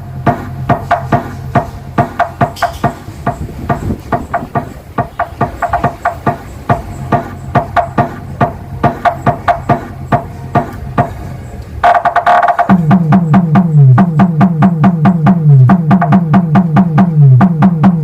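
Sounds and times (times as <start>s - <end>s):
dance beat over loudspeakers: 0.0s - 18.0s.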